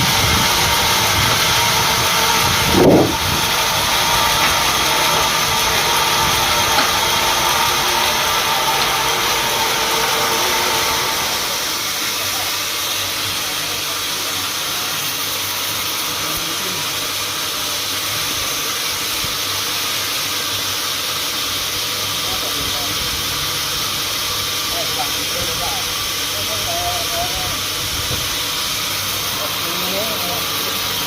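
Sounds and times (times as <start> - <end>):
sawmill machinery hissing: 0.0 - 31.0.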